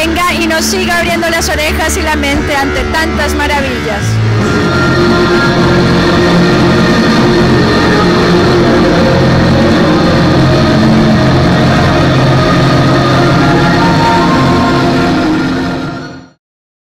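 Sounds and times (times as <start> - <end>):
drone-like distorted rock music: 0.0 - 16.4.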